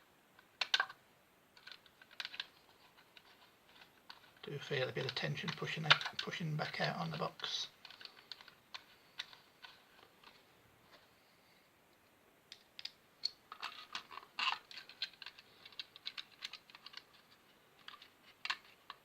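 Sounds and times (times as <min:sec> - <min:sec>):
plastic faceplate clicks and scrapes: 0:00.5 - 0:01.0, 0:01.6 - 0:11.1, 0:12.5 - 0:19.0.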